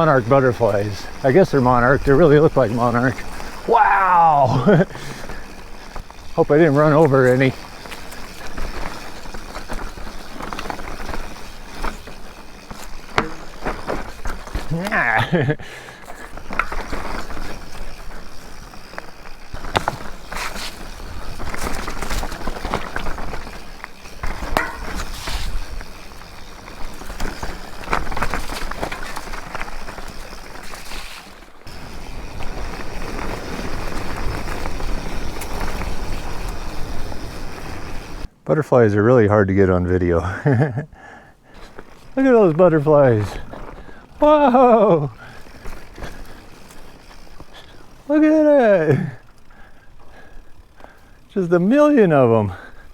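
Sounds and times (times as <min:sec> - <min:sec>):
bike rattling and clicking: 0:00.0 - 0:38.4, 0:40.2 - 0:52.9
bike tyres on dirt trail: 0:00.0 - 0:52.9.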